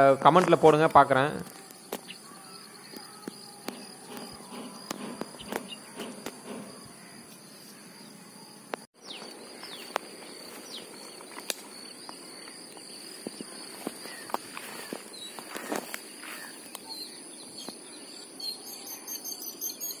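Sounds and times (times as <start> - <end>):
insects droning: 0.0 - 20.0
bird chirps: 1.4 - 20.0.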